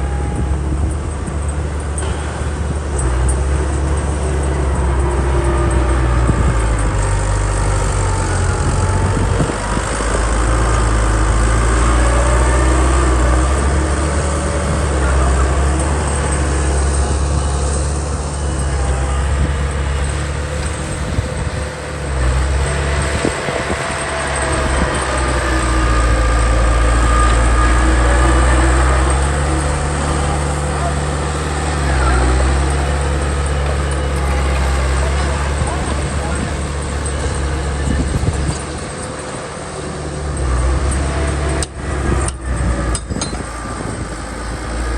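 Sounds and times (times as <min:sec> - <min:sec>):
heavy diesel engine rumbling: 0:00.0 - 0:44.9.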